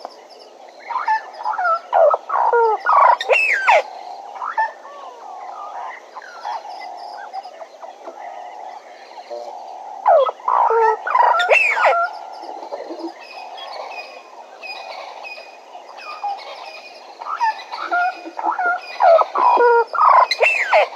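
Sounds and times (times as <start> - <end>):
background bird chorus: 0.0 - 20.9
harsh bird calls: 0.8 - 20.9.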